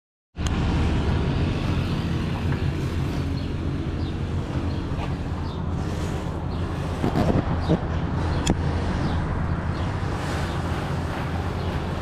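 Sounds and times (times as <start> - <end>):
pickup truck engine rumble: 0.4 - 12.0.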